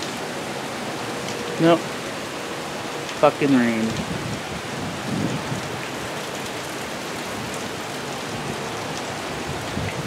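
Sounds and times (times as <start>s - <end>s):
heavy rain on pavement and cars: 0.0s - 10.0s.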